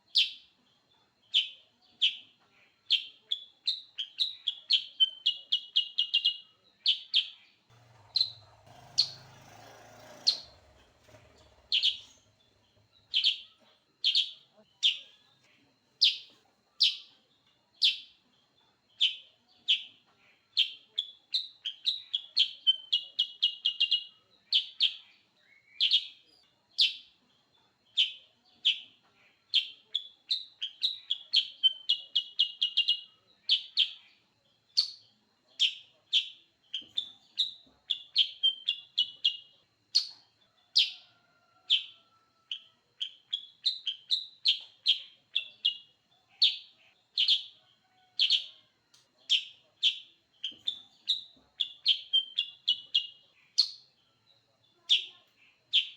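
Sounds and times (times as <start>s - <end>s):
songbird singing bright chirps: 0.0s - 9.4s, 10.0s - 55.9s.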